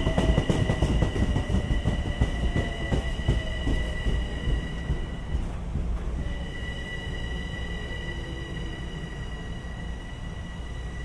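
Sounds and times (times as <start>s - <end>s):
train high whine: 0.0s - 11.0s.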